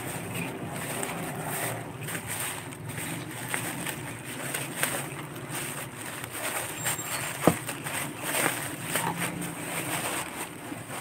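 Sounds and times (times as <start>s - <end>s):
rustling and light knocks: 0.0s - 11.0s.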